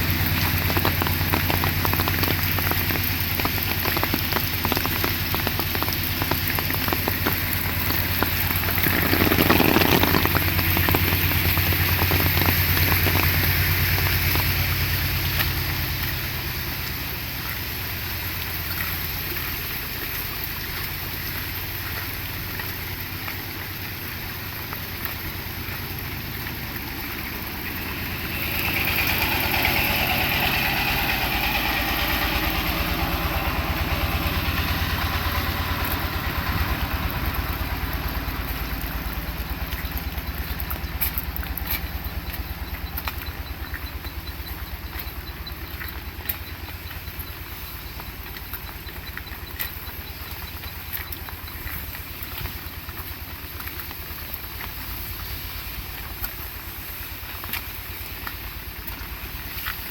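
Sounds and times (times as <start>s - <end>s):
motor engine running: 0.0s - 59.9s
steady rain falling: 0.0s - 59.9s.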